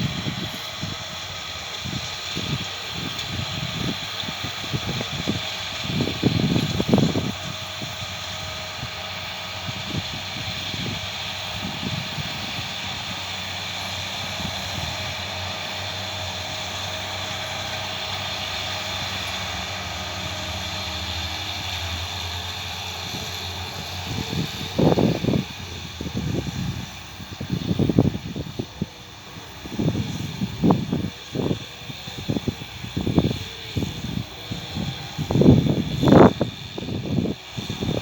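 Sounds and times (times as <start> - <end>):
tractor and baler droning: 0.0 - 38.0.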